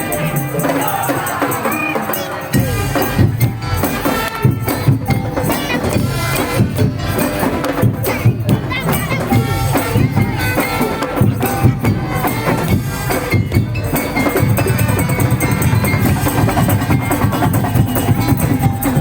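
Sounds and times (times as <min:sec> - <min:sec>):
loud percussion music: 0:00.0 - 0:19.0.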